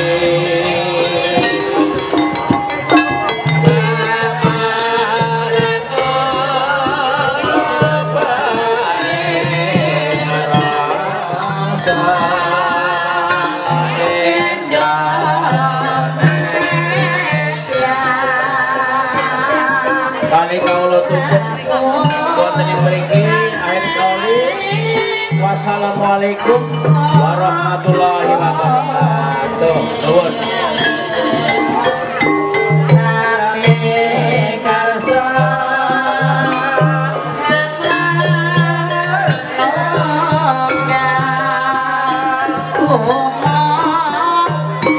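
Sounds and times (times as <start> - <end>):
gamelan music: 0.0 - 44.9
person singing: 0.0 - 44.9
traditional ensemble playing: 0.0 - 44.9.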